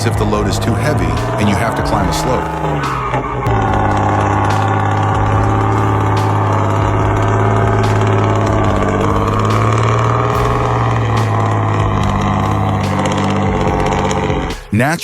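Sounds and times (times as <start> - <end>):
truck diesel engine labouring: 0.0 - 14.9.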